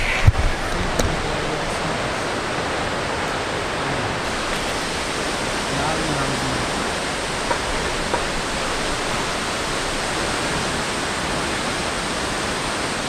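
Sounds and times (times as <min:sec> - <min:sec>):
large waterfall rushing: 0:00.0 - 0:13.0.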